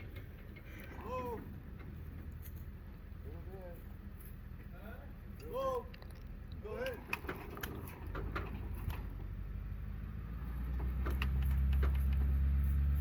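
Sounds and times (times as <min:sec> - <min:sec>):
vehicle engine under load: 0:00.0 - 0:13.0.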